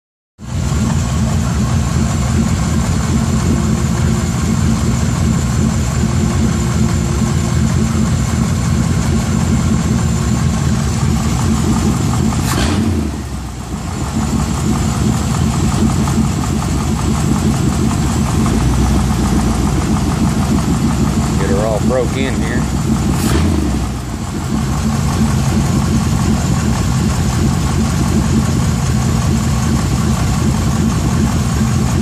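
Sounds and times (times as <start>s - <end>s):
car engine idling: 0.4s - 32.0s.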